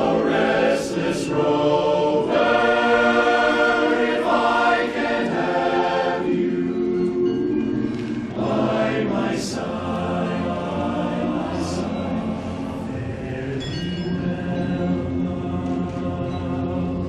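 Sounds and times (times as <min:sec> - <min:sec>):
men singing close harmony a cappella: 0:00.0 - 0:17.0.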